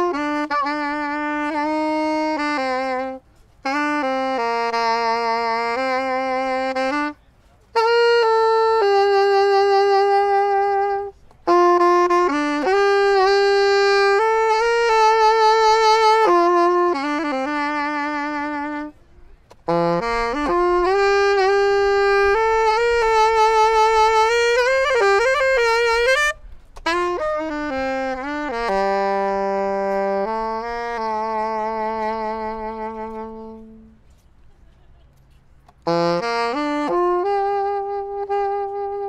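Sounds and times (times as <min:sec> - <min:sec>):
saxophone solo melody: 0:00.0 - 0:34.2, 0:35.4 - 0:39.0.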